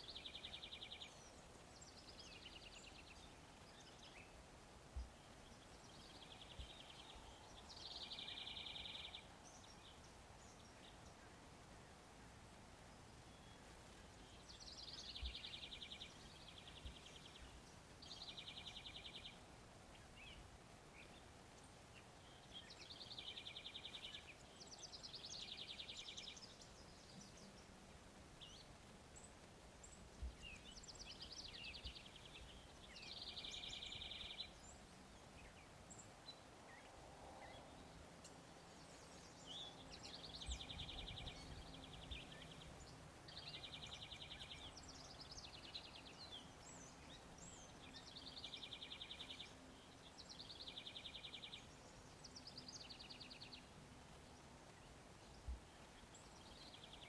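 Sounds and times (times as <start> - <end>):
low outdoor background noise: 0.0 - 57.0.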